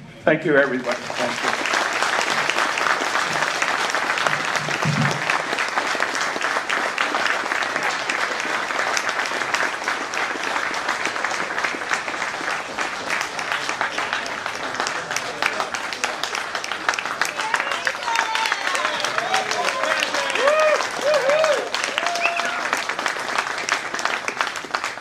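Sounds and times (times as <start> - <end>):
audience applauding: 0.4 - 25.0.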